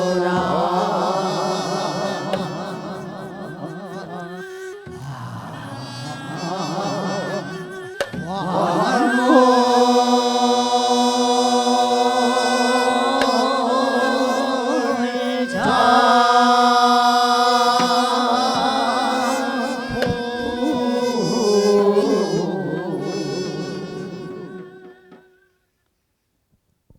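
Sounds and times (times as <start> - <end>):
man and woman singing slowly: 0.0 - 25.4.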